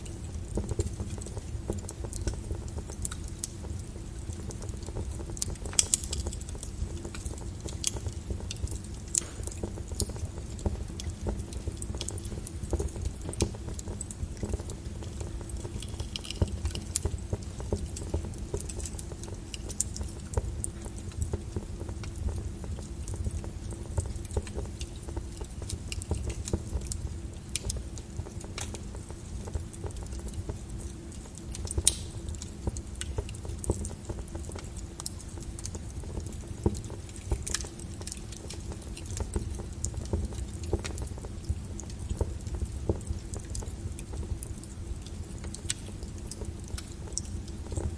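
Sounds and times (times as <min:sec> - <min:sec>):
low fire rumble: 0:00.0 - 0:47.9
wood fire crackling: 0:00.0 - 0:47.9.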